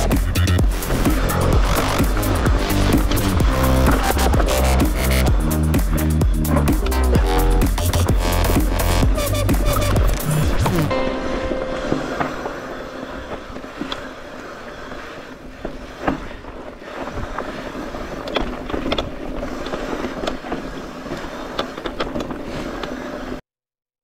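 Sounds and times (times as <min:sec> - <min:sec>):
bike rolling and rattling: 0:00.0 - 0:11.1, 0:11.9 - 0:23.4.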